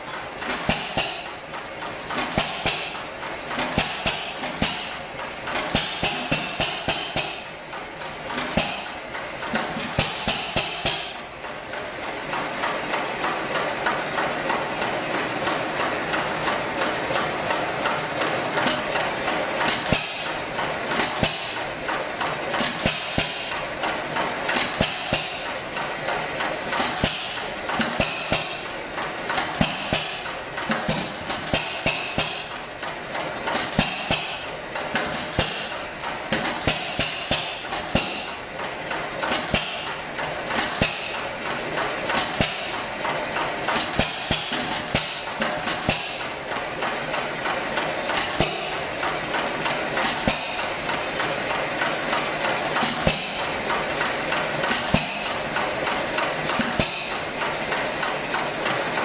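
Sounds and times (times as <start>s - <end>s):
stationary engine clicking and knocking: 0.0s - 59.0s.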